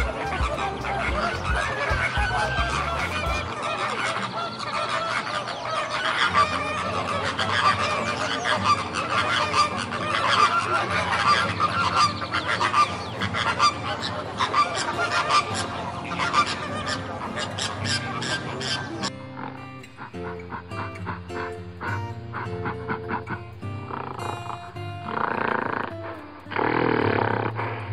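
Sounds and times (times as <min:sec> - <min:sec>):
waterfowl calling: 0:00.0 - 0:27.9.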